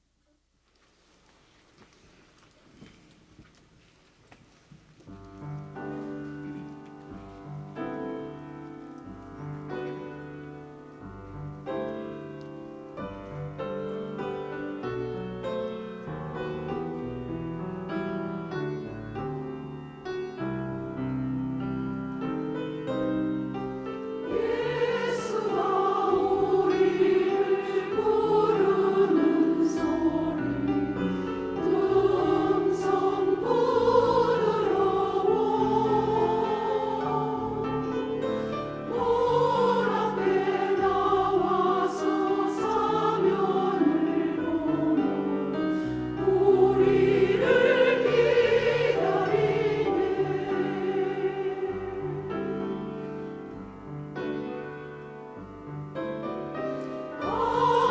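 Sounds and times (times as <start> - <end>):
church choir singing: 5.1 - 57.9
piano playing slow chords: 5.4 - 57.9.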